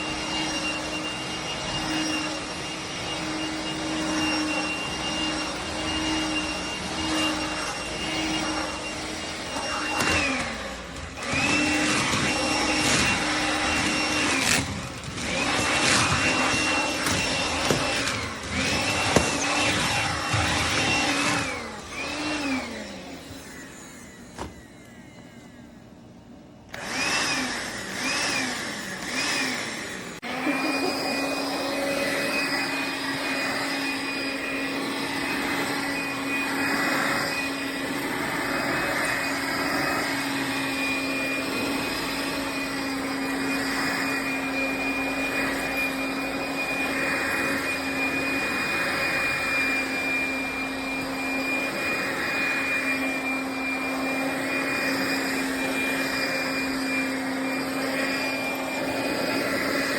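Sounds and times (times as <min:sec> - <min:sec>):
vacuum motor whining: 0:00.0 - 0:59.9.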